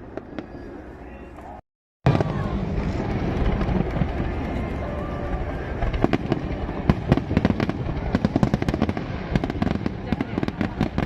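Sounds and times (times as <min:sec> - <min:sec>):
fireworks bangs and crackles: 0:00.0 - 0:11.0
steady low rumble: 0:02.1 - 0:11.0.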